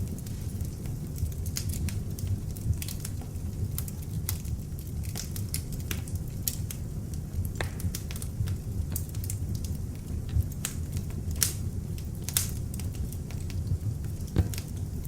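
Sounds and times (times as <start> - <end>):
fire crackles and pops: 0.0 - 15.0
log fire rumbling: 0.0 - 15.0.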